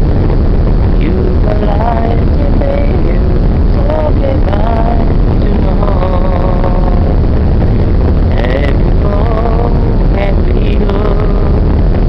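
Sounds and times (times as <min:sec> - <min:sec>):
churning wake: 0:00.0 - 0:12.0
ship engines rumbling: 0:00.0 - 0:12.0
wind on deck: 0:00.0 - 0:12.0
voices singing: 0:01.0 - 0:07.4, 0:08.2 - 0:11.9.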